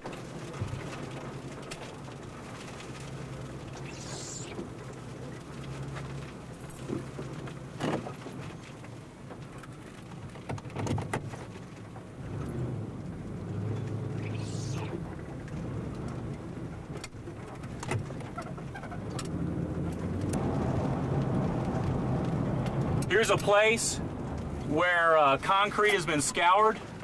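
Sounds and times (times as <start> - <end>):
rain tapping on glass: 0.0 - 27.0
vehicle engine and road noise: 0.0 - 27.0.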